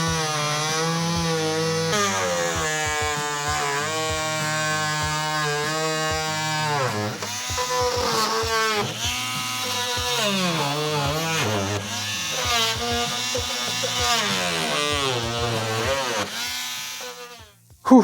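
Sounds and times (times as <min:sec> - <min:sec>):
power tool cutting plastic: 0:00.0 - 0:17.7.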